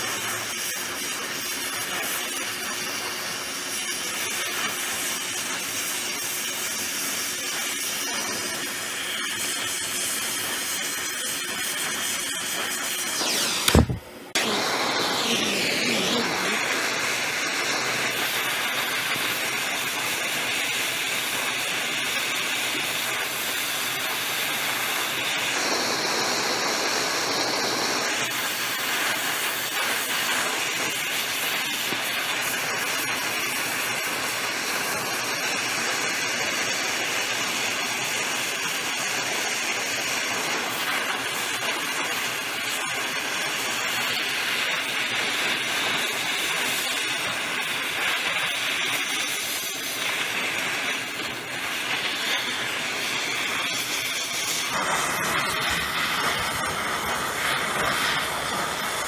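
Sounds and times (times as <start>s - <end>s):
brazing torch flame hissing: 0.0s - 59.0s.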